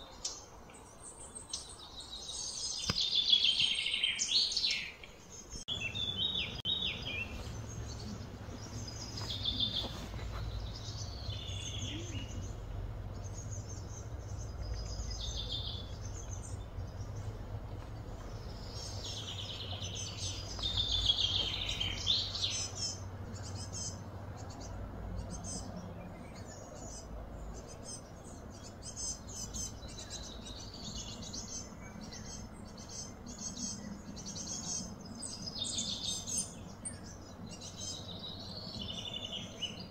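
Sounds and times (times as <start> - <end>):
birds chirping and trilling: 0.0 - 39.9
low steady rumble: 5.6 - 39.9.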